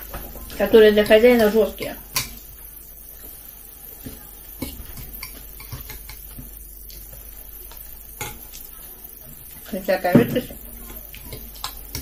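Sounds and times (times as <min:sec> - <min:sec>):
soft eating sounds: 0:00.0 - 0:12.0.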